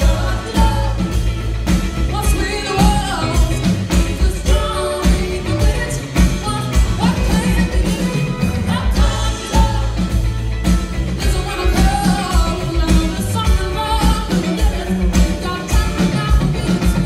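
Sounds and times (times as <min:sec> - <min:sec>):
woman singing lead vocal: 0:00.0 - 0:10.3, 0:11.1 - 0:17.0
live band playing soul-pop: 0:00.0 - 0:17.0.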